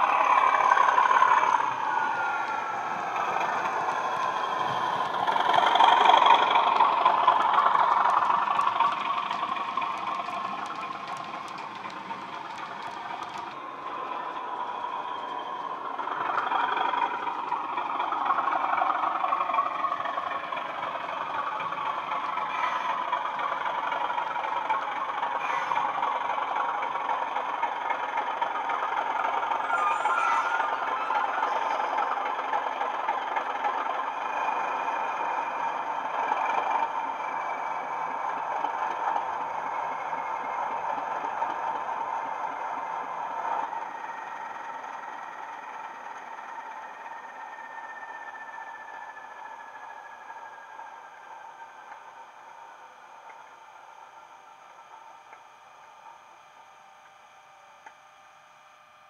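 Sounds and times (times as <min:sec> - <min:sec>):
model locomotive diesel engine sound: 0:00.0 - 0:59.0.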